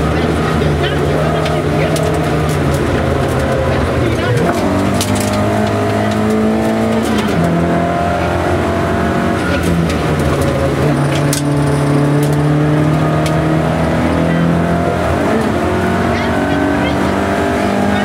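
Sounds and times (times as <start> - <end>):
rally car engine pulling hard: 0.0 - 18.0.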